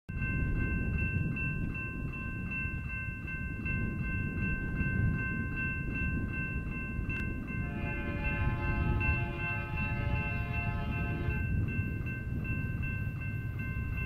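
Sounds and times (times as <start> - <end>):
crossing warning bell ringing: 0.1 - 14.0.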